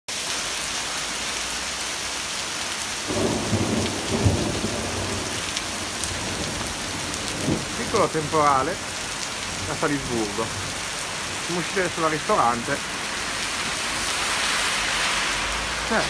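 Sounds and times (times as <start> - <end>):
heavy rain on pavement: 0.1 - 16.0
thunder rumbling: 3.0 - 16.0.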